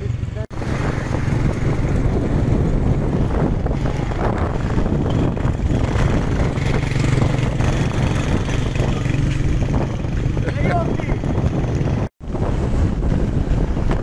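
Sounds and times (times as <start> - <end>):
small motorbike engine running: 0.0 - 12.1
wind rushing over microphone: 0.5 - 14.0.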